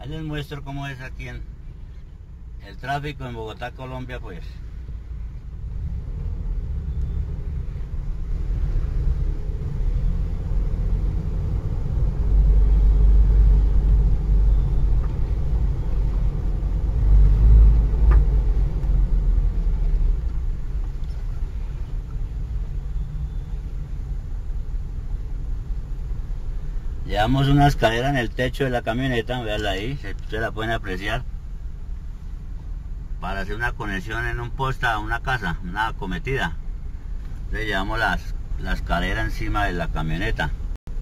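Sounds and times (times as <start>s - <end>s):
vehicle rumble inside cabin: 0.0s - 41.0s.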